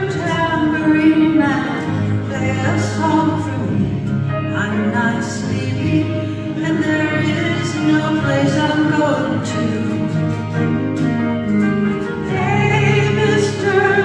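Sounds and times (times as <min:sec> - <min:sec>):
woman singing: 0:00.0 - 0:10.7, 0:12.0 - 0:14.0
strummed acoustic guitar: 0:00.0 - 0:14.0.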